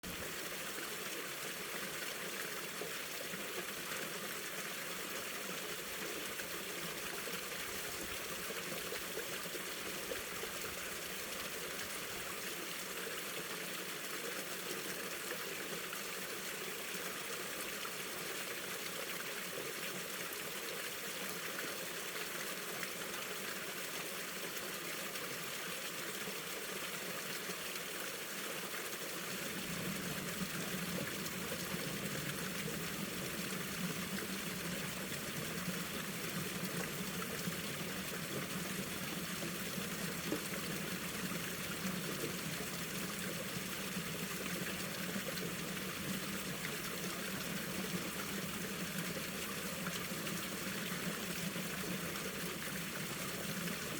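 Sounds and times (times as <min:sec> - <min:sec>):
stream flowing over rocks: 0:00.0 - 0:53.9.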